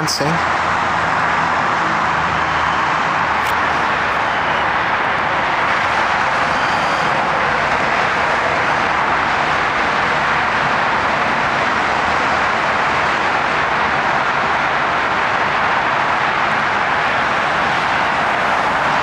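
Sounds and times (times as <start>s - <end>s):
heavy freeway traffic roar: 0.0s - 19.0s.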